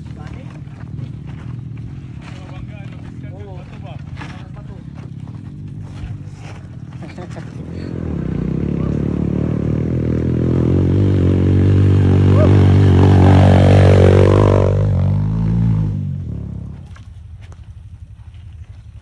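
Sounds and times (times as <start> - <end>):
dirt bike engine passing: 0.0 - 19.0.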